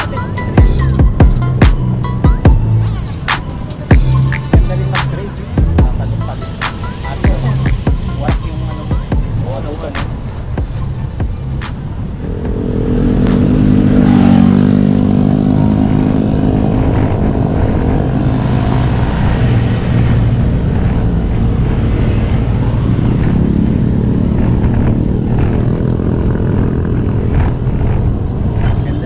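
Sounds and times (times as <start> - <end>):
low wind rumble: 0.0 - 29.0
vehicle engine running: 0.0 - 29.0.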